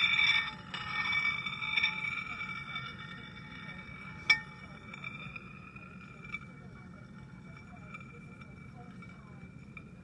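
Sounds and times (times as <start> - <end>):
glass spinning top ringing hum: 0.0 - 10.0.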